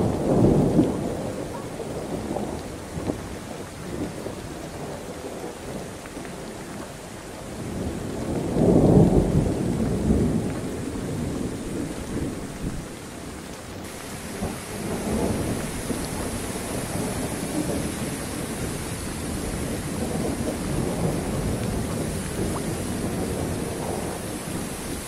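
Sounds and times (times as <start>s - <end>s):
strong wind through trees: 0.0s - 25.0s
wind rumbling on microphone: 0.0s - 25.0s.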